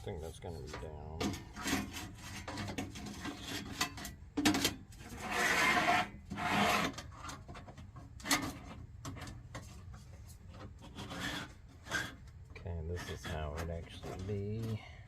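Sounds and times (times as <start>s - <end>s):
hands rubbing and scraping parts: 0.0s - 15.0s.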